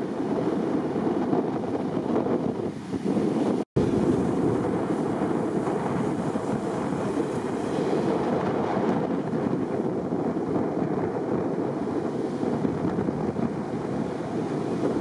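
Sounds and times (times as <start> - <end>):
breaking surf: 0.0 - 15.0
wind on microphone: 0.0 - 15.0.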